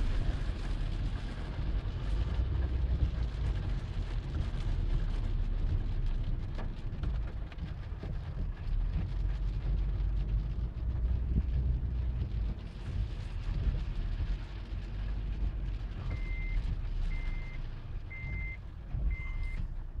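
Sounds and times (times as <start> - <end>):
engine and road rumble: 0.0 - 20.0
rain on a car roof: 0.0 - 20.0.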